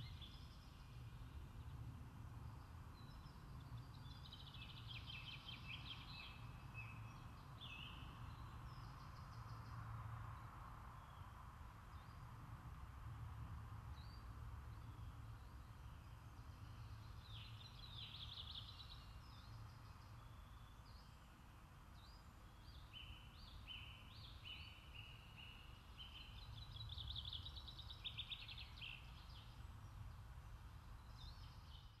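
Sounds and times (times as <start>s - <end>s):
songbirds singing: 0.0s - 12.5s, 13.8s - 32.0s.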